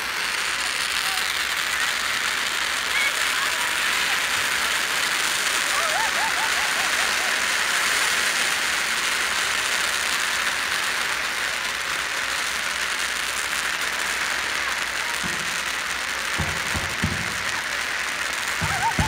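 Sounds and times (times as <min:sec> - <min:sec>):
firecrackers crackling: 0:00.0 - 0:19.0.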